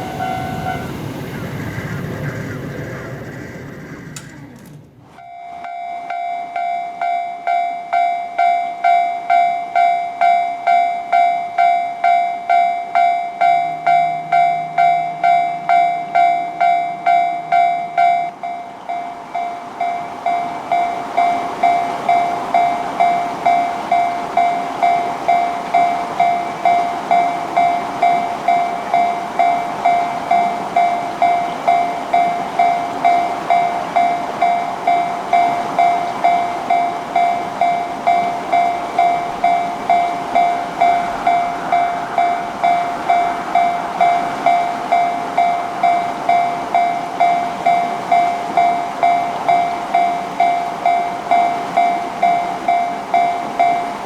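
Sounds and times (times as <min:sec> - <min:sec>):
railroad crossing warning bell: 0:00.0 - 0:01.2, 0:05.2 - 0:54.0.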